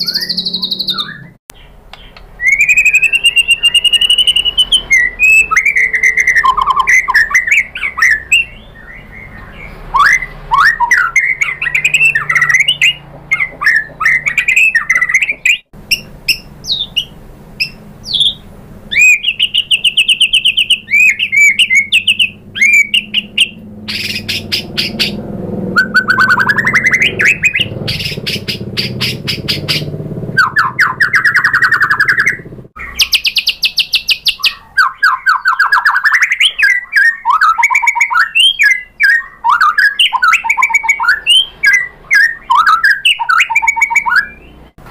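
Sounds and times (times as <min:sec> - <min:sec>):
bird singing whistles and trills: 0:00.0 - 0:44.7.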